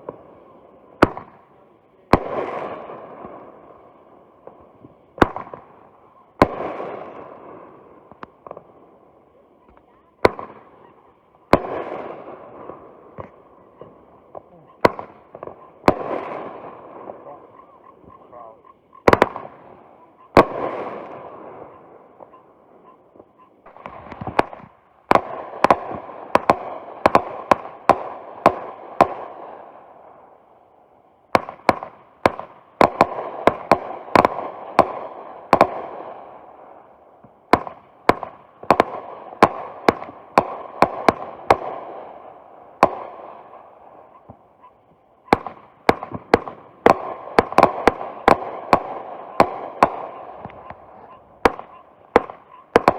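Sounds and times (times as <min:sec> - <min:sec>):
fireworks bangs: 0:00.0 - 0:52.9.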